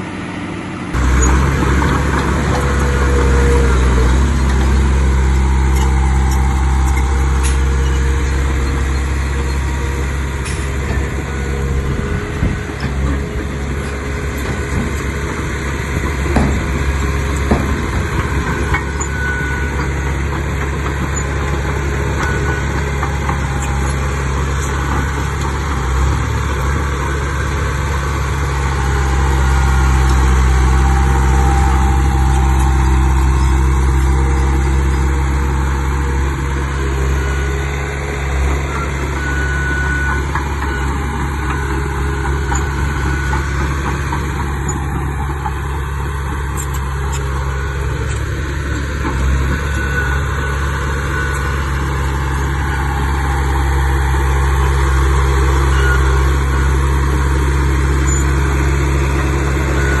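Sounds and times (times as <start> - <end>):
diesel engine droning: 0.0 - 60.0.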